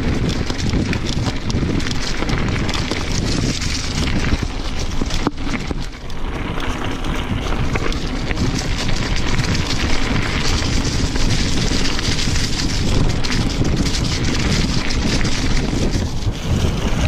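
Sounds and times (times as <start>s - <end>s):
bike clattering over bumps: 0.0s - 17.0s
bike tyre noise: 0.0s - 17.0s
wind buffeting microphone: 0.0s - 17.0s.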